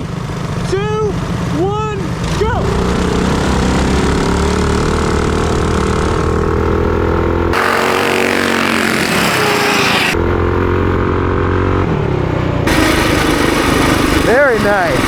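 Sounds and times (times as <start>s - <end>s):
minibike engines at high revs: 1.5s - 11.9s, 12.6s - 15.0s.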